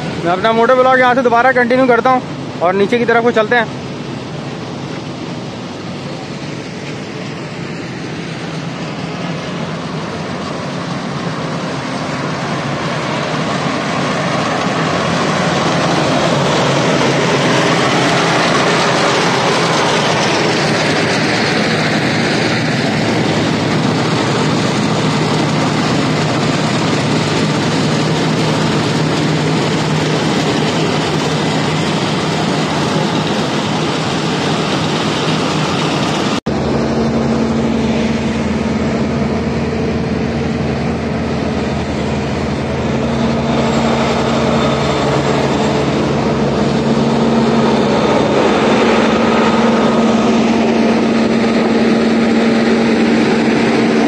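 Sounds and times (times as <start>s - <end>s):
diesel machinery engines running: 0.0s - 54.0s.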